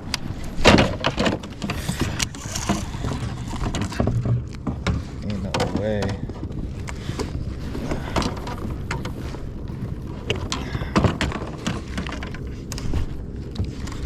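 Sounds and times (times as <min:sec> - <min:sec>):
knocks and clicks of gear: 0:00.0 - 0:14.0
steady low rumble: 0:00.0 - 0:14.0.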